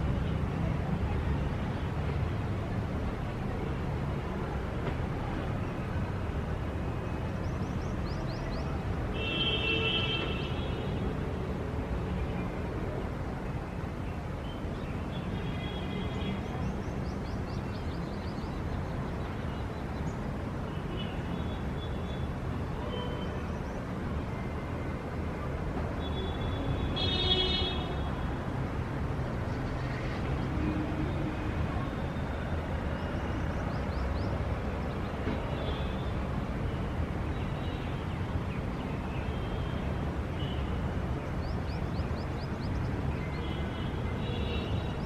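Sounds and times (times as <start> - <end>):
city traffic rumble: 0.0 - 45.0.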